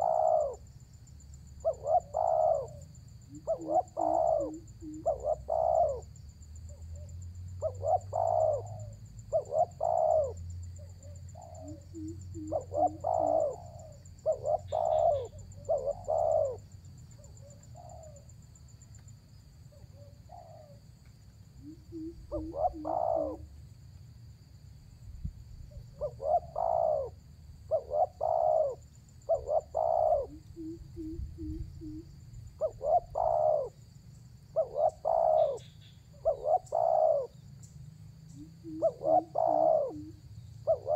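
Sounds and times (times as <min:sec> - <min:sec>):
dove cooing: 0:00.0 - 0:00.7, 0:01.6 - 0:18.3, 0:19.7 - 0:20.8, 0:21.6 - 0:23.6, 0:25.7 - 0:33.8, 0:34.5 - 0:37.4, 0:38.3 - 0:40.9.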